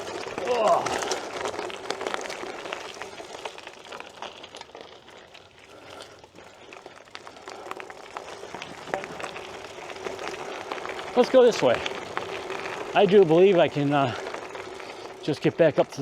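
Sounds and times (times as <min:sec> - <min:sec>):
footsteps crunching on rocky trail: 0:00.0 - 0:15.9.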